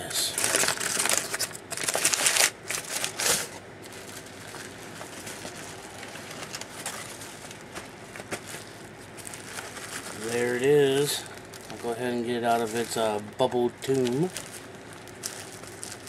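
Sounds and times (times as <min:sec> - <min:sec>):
bubble-wrapped package rustling: 0:00.2 - 0:16.0
packing paper crinkling: 0:00.2 - 0:16.0.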